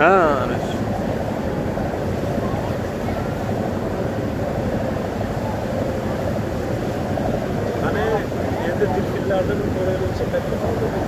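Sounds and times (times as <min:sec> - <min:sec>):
ferry engine hum: 0:00.0 - 0:11.0
rushing water: 0:00.0 - 0:11.0
wind noise: 0:00.0 - 0:11.0.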